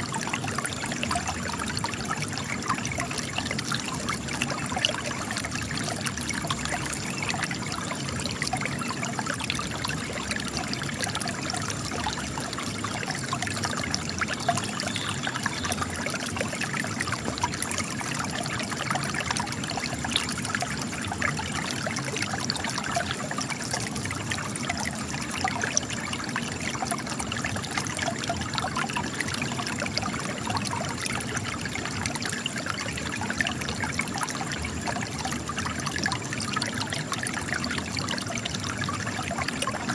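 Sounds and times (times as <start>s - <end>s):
spring water trickling and splashing: 0.0s - 39.9s.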